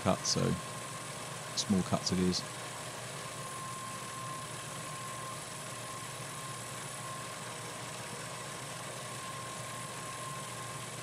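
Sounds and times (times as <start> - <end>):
milling machine running with whine: 0.0 - 11.0.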